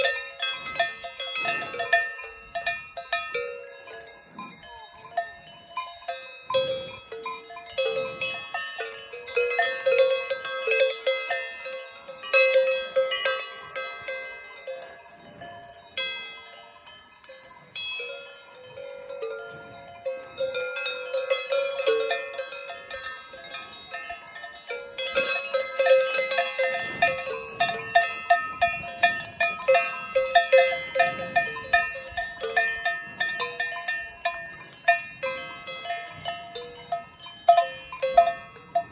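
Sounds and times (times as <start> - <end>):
cowbells clanking: 0.0 - 38.9.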